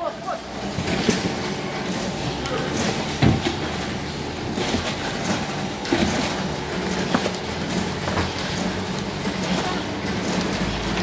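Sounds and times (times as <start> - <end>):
packing machinery running: 0.0 - 11.0.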